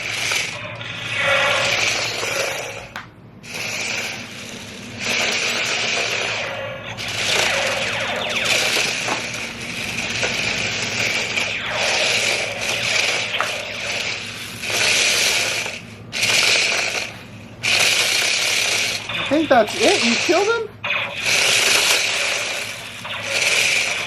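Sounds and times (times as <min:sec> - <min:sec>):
toy tank motors whirring: 0:00.0 - 0:24.0.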